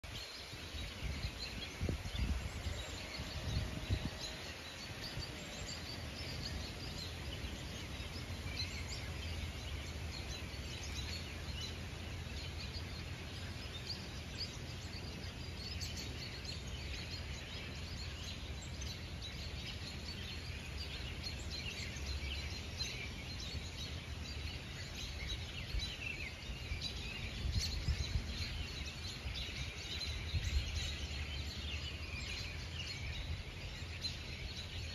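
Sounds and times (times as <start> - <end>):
birds chipping and twittering: 0.0 - 34.9.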